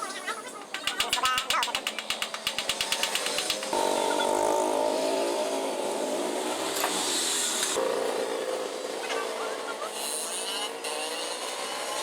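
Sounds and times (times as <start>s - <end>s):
scooter engine running: 0.7s - 12.0s.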